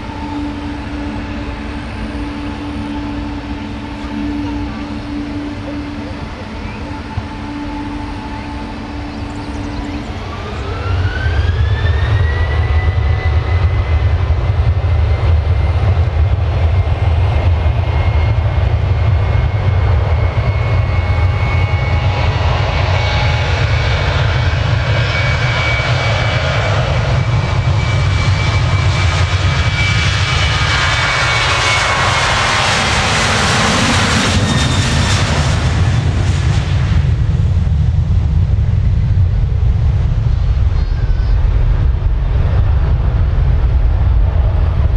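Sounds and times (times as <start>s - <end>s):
jet engine whine: 0.0s - 44.9s
loud low engine rumble: 0.0s - 44.9s.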